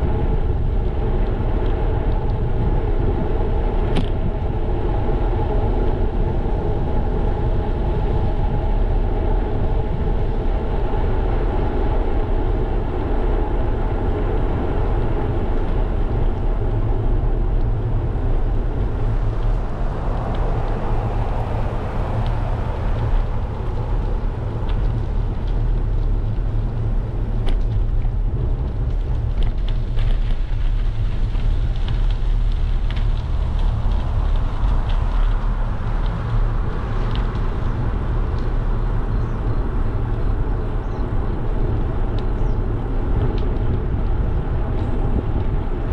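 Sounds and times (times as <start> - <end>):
bicycle tyres rolling on asphalt: 0.0 - 45.9
wind rumble on microphone: 0.0 - 45.9.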